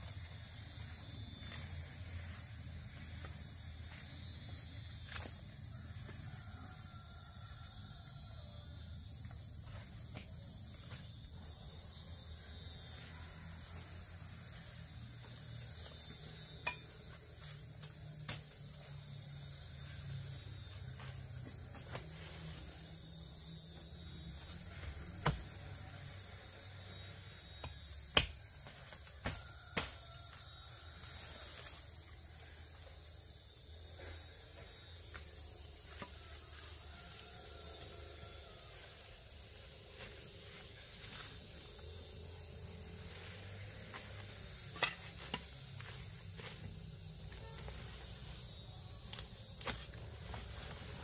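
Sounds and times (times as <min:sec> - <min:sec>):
insects chirring: 0:00.0 - 0:51.0.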